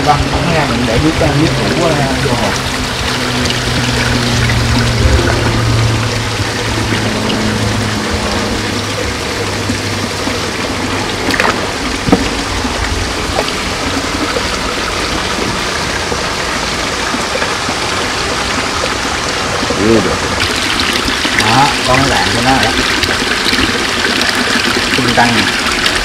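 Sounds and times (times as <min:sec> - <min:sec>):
low hum: 0:00.0 - 0:24.5
water splashing into pond: 0:00.0 - 0:26.0.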